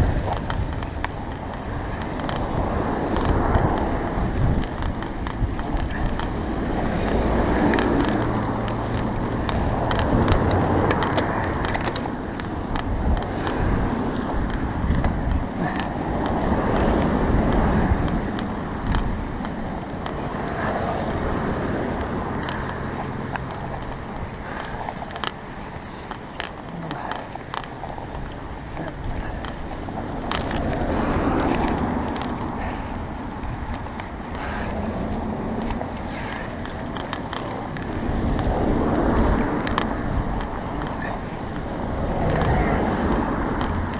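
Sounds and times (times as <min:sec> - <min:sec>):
bike clicks and knocks: 0:00.0 - 0:43.9
tyres crunching through snow: 0:00.0 - 0:43.9
wind noise on microphone: 0:00.0 - 0:43.9.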